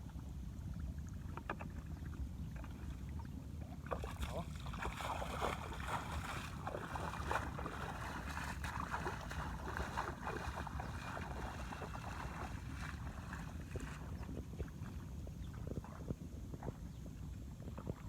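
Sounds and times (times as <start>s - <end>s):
wind rumble on microphone: 0.0s - 18.0s
splashing in shallow water: 1.2s - 17.0s.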